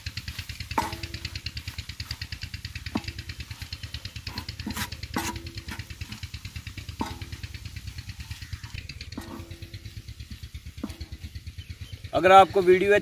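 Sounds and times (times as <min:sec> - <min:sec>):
spoon stirring on iron griddle: 0:00.0 - 0:12.9
fast-chugging engine: 0:00.0 - 0:13.0
wooden spoon knocking on griddle: 0:00.6 - 0:11.8.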